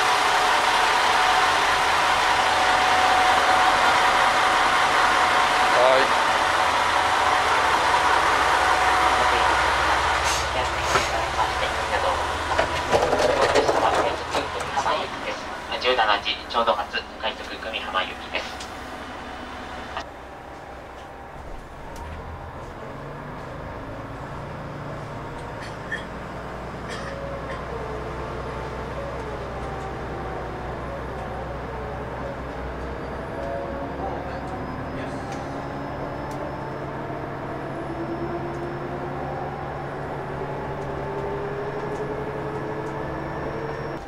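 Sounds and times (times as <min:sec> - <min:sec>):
rising whine: 0:00.0 - 0:25.5, 0:27.2 - 0:44.0
train diesel engine drone: 0:00.0 - 0:44.0.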